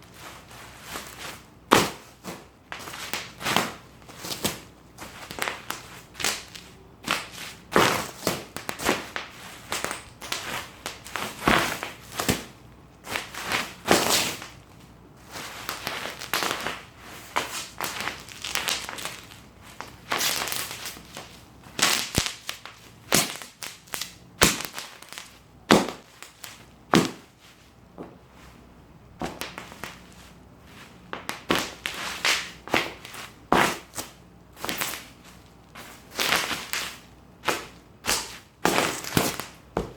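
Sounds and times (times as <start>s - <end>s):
plastic crinkling: 0.1s - 12.5s, 13.1s - 28.6s, 29.2s - 39.9s
bubble wrap popping: 0.9s - 12.5s, 15.4s - 27.4s, 29.2s - 30.2s, 31.1s - 35.4s, 36.0s - 39.9s.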